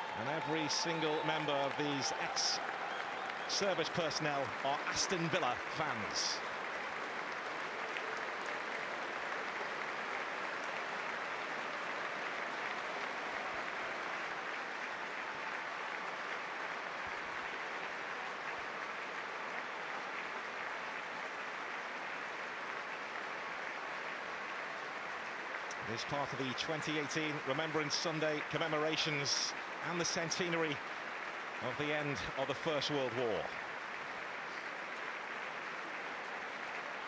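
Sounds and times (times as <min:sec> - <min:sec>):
stadium crowd applauding: 0:00.0 - 0:37.0.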